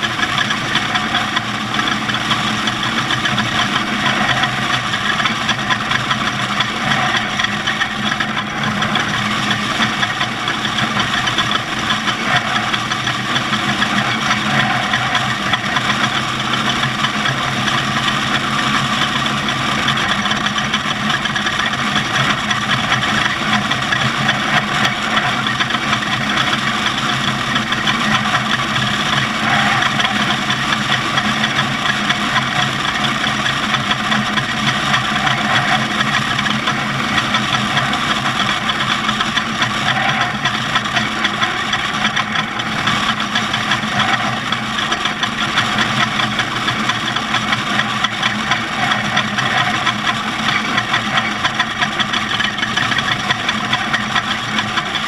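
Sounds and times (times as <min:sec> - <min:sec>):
race vehicle engine running: 0:00.0 - 0:55.0
steady rushing noise: 0:00.0 - 0:55.0.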